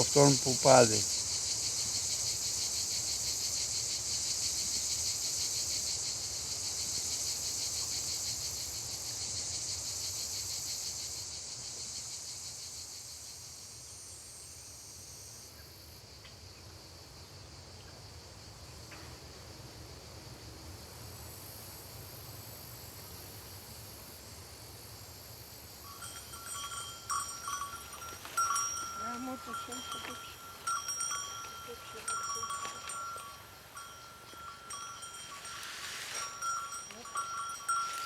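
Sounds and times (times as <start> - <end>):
cicadas buzzing: 0.0 - 38.0.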